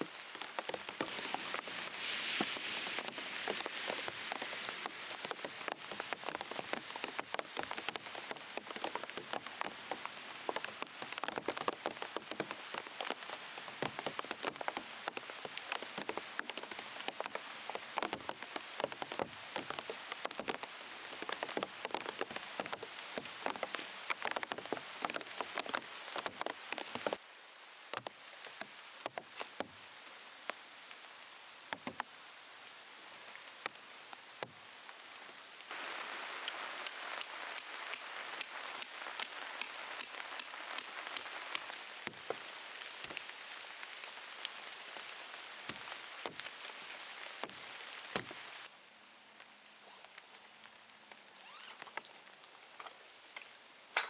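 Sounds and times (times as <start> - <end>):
raindrops tapping on plastic sheet: 0.0 - 27.3, 27.9 - 30.6, 31.6 - 32.2, 33.4 - 48.7
hiss of rain: 0.0 - 54.0.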